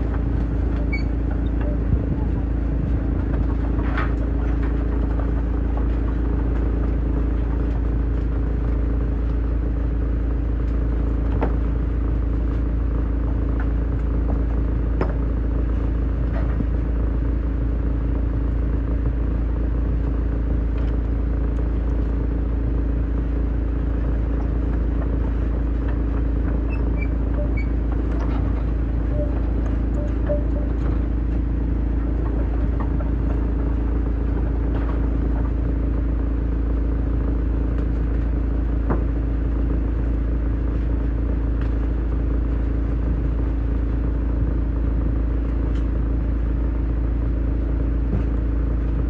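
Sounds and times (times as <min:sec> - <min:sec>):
wood chipper running: 0:00.0 - 0:49.0.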